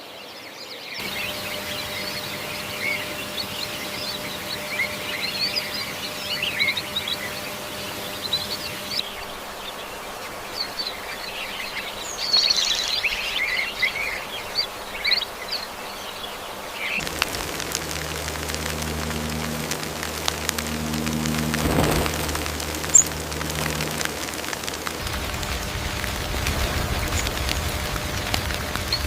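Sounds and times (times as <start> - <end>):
small birds chirping: 0.0 - 25.0
forest ambience hiss: 0.0 - 29.0.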